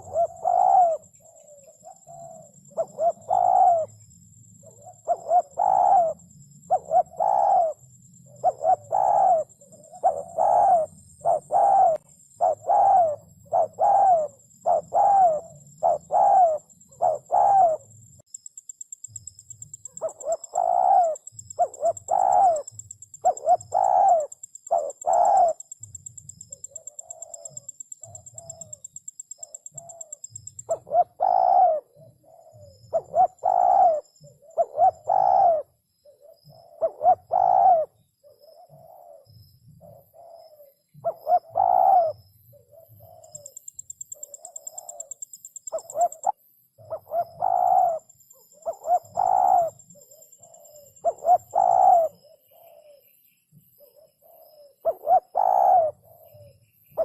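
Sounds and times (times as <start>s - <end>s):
dove cooing: 0.0s - 18.0s, 19.8s - 53.1s, 53.8s - 57.0s.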